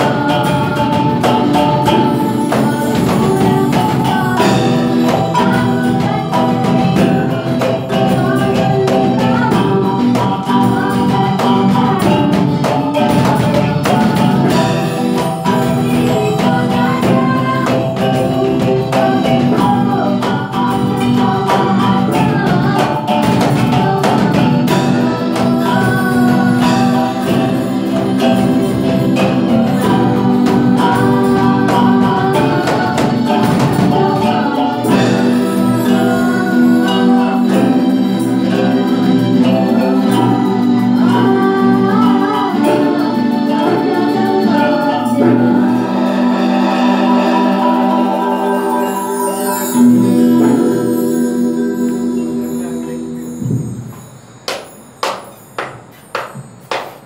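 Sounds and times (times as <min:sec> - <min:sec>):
man singing through microphone: 0:00.0 - 0:28.4, 0:29.0 - 0:53.4.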